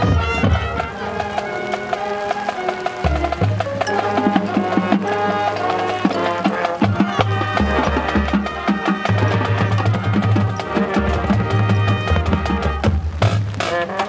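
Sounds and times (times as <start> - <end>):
brass and woodwind chords: 0.0 - 14.0
marching drumline percussion: 0.0 - 14.0.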